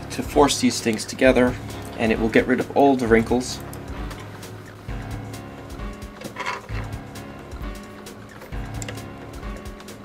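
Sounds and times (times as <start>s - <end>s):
background music low held tones: 0.0s - 10.0s.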